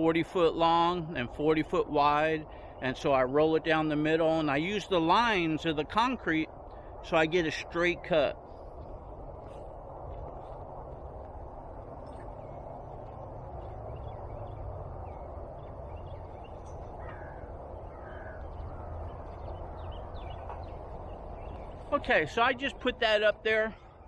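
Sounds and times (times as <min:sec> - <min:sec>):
birds chirping: 0:00.0 - 0:24.0
low rumble: 0:03.2 - 0:24.0.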